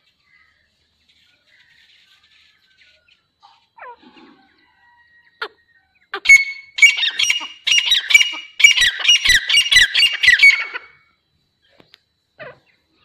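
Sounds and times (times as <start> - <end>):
francolin calling: 1.4 - 13.0.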